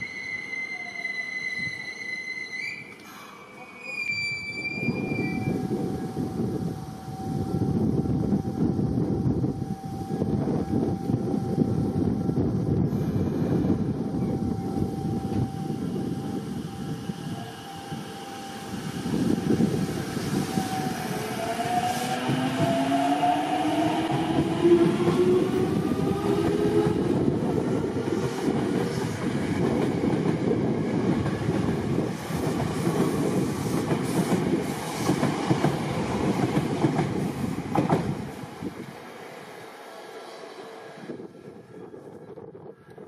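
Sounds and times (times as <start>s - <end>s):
train wheels rumbling on rails: 4.8s - 43.0s.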